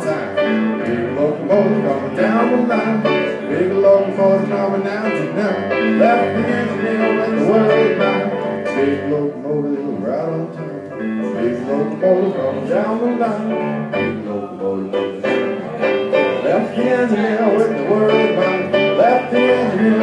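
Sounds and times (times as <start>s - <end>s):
electric keyboard playing chords: 0.0s - 20.0s.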